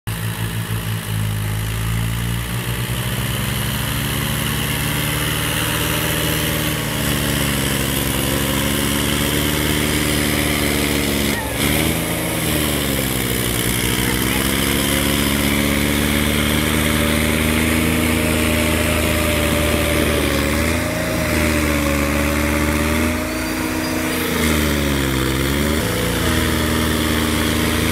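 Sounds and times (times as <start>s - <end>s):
tractor diesel engine labouring: 0.1s - 27.9s.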